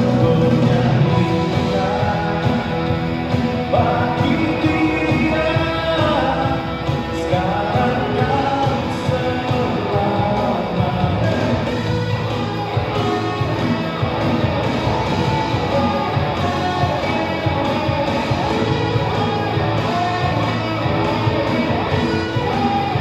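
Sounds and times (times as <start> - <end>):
guitar: 0.0 - 23.0
person singing: 0.0 - 23.0
rock band playing: 0.0 - 23.0.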